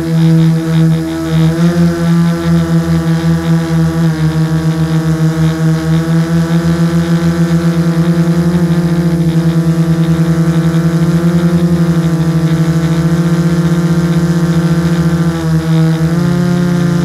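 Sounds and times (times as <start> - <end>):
drone motors hovering: 0.0 - 17.0.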